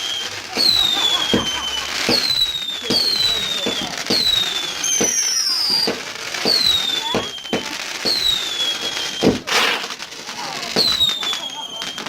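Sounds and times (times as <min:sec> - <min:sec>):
firework bang and crackle: 0:00.0 - 0:12.0
firework pops and cracks: 0:00.0 - 0:12.0
whistling firework shots: 0:00.0 - 0:12.0.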